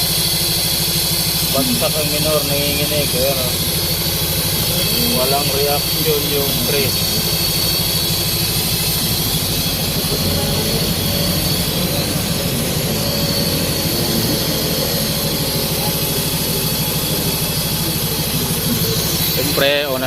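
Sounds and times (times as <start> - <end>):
car engine idling with misfire: 0.0 - 20.0.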